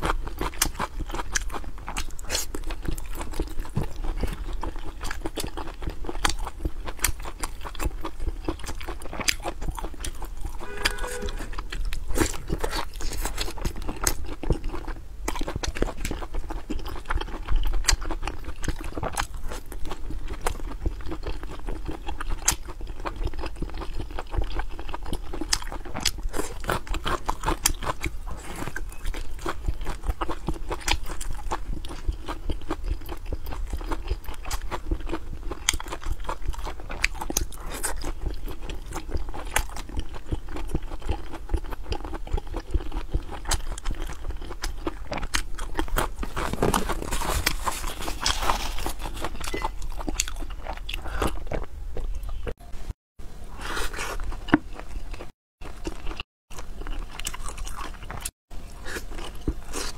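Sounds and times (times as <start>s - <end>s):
person chewing crunchy food: 0.0s - 52.6s, 53.5s - 59.9s.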